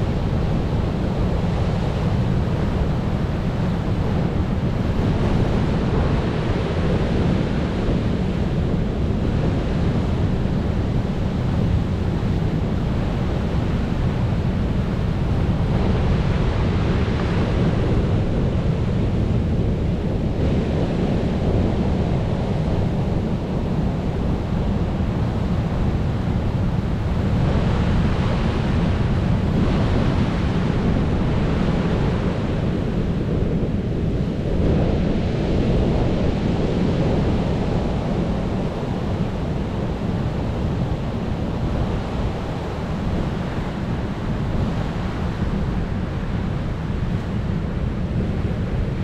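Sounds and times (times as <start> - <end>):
ocean waves breaking on shore: 0.0 - 49.0
wind noise on microphone: 0.0 - 49.0.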